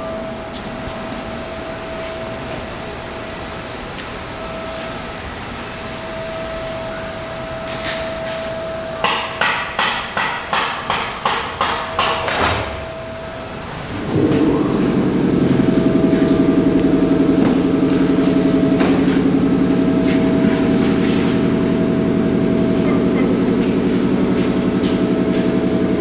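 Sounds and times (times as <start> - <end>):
faint whine: 0.0 - 9.0, 12.6 - 26.0
steady hum: 0.0 - 26.0.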